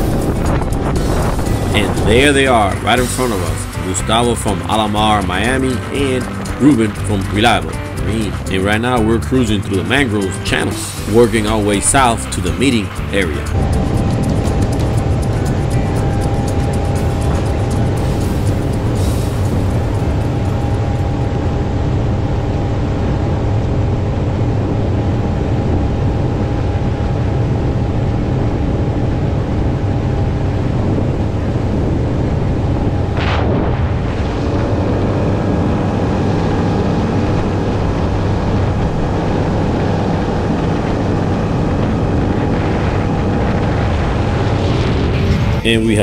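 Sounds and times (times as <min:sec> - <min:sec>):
boat engine drone: 0:00.0 - 0:46.0
rushing wind and water: 0:00.0 - 0:46.0.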